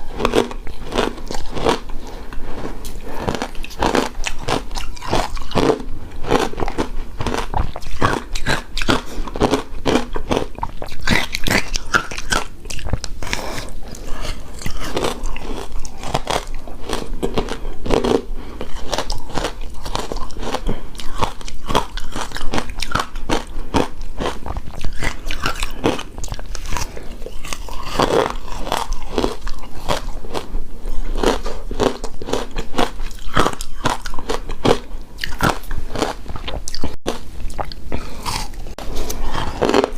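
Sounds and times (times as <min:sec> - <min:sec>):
chewing crunchy shaved ice: 0:00.0 - 0:39.9.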